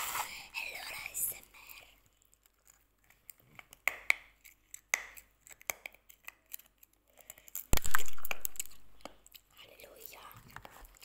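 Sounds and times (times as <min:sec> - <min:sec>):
candy beads crunching between teeth: 0:01.6 - 0:11.0.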